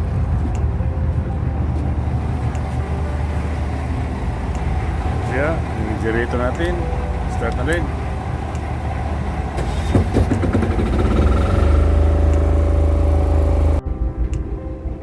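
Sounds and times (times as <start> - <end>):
diesel engine running loud: 0.0 - 14.3
quiet music: 0.0 - 15.0.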